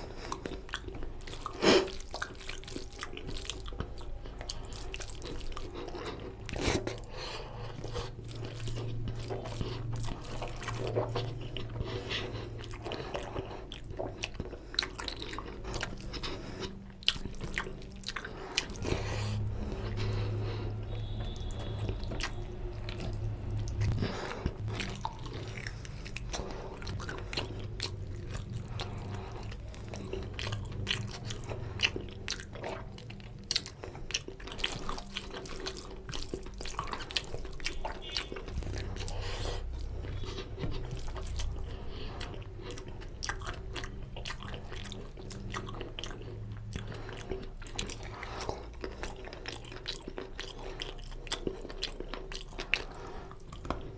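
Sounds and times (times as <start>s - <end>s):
low steady hum: 0.0s - 53.9s
man chewing wet food: 0.0s - 53.9s.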